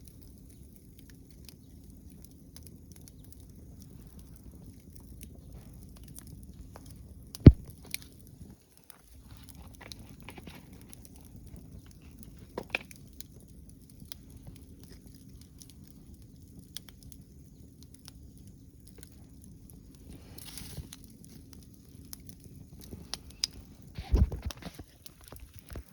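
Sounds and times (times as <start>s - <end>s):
fire hissing: 0.0s - 25.9s
wood fire crackling: 0.0s - 25.9s.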